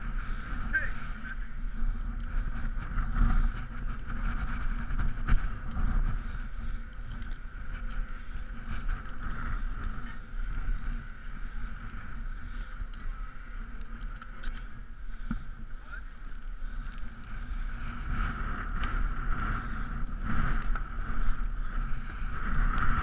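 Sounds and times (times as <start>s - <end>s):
carabiners and rope clinking: 0.0s - 23.0s
steady rumbling: 0.0s - 23.0s.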